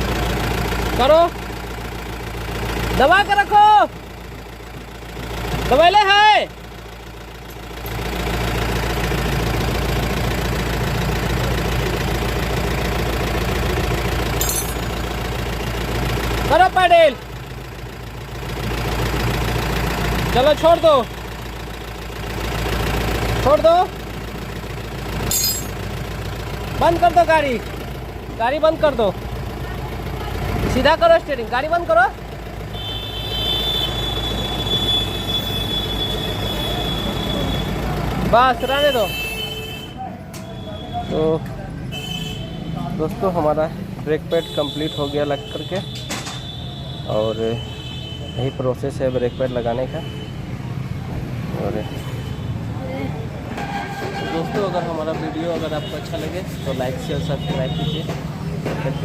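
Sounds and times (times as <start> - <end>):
car engine idling: 0.0 - 53.6.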